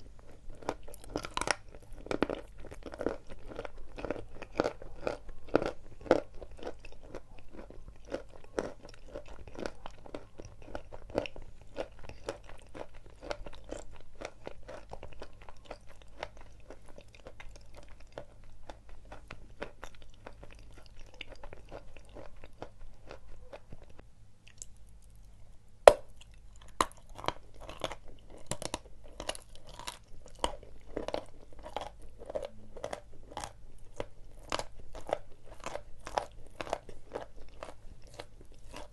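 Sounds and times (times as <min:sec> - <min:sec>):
chalk being chewed crunching: 0:00.0 - 0:24.7, 0:26.0 - 0:38.9.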